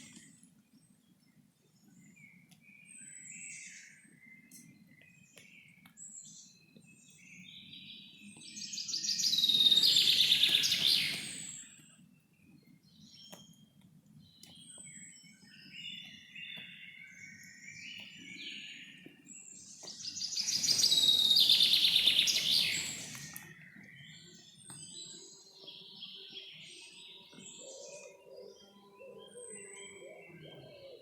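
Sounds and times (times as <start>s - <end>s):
birds chirping and singing: 1.8s - 13.5s, 14.3s - 31.0s.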